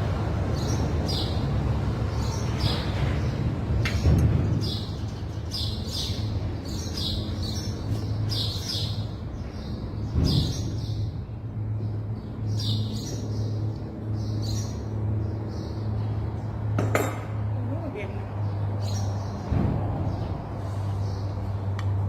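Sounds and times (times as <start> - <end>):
small birds chirping: 0.6 - 16.7, 17.4 - 22.0.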